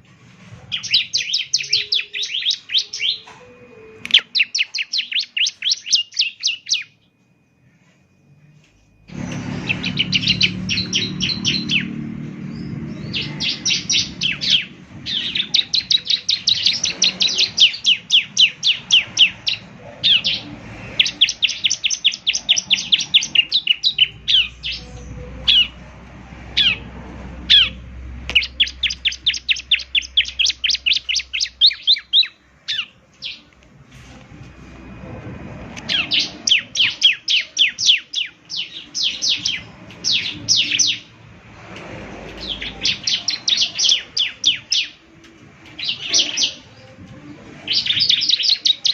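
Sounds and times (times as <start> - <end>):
bird high chirping song: 0.6 - 34.1, 35.7 - 48.9.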